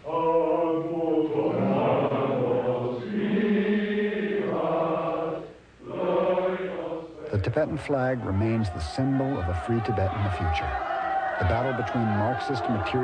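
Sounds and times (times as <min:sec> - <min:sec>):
voices chanting long notes: 0:00.0 - 0:13.0.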